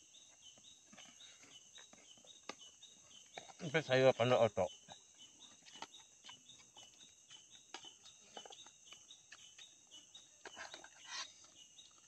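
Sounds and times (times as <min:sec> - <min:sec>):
insect chirps: 0:00.0 - 0:12.0
insects buzzing: 0:00.0 - 0:12.0.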